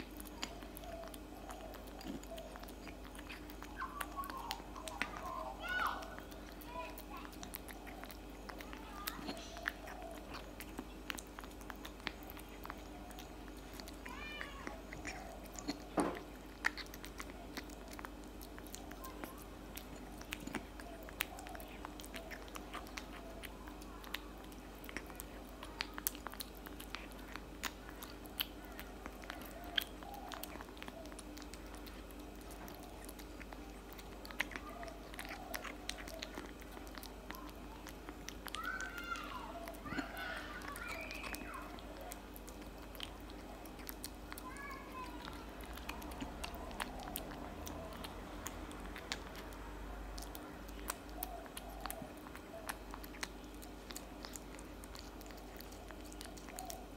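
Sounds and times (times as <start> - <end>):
kitten chewing wet food: 0.0 - 56.9.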